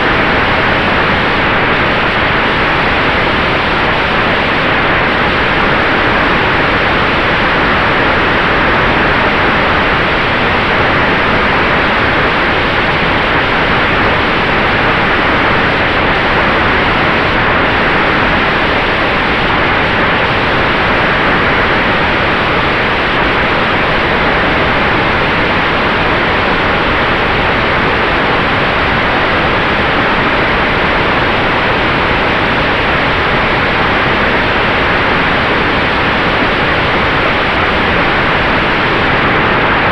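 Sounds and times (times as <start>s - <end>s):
rush of air in flight: 0.0s - 39.9s.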